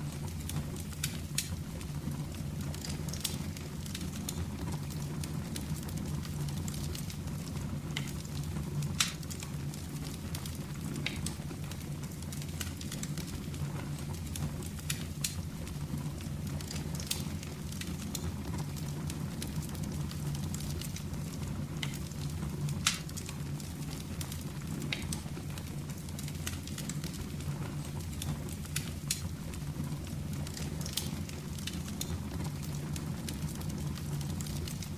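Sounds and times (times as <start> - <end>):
fireplace fire crackling: 0.0 - 34.9
low fire rumble: 0.0 - 34.9
loud fire pops: 0.1 - 34.9.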